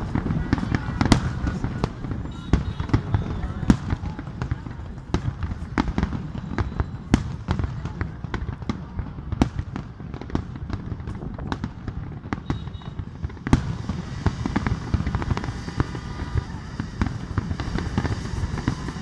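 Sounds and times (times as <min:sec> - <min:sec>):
fireworks bursts banging: 0:00.0 - 0:19.0.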